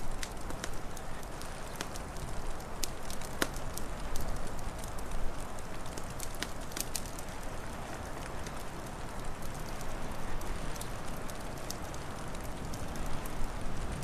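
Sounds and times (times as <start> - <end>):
low rumbling wind noise: 0.0 - 14.0
wood fire crackling and popping: 0.0 - 14.0.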